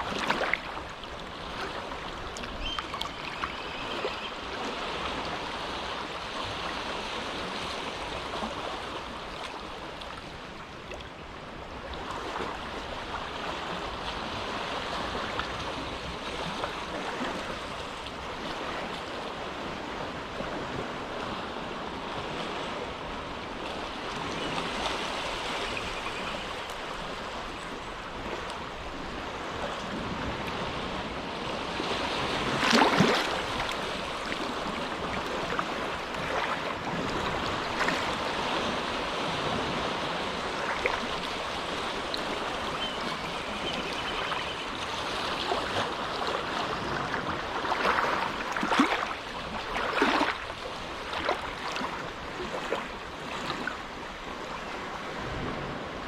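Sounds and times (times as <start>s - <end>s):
small waves lapping on shore: 0.0s - 56.0s
wave splashing: 0.0s - 56.0s.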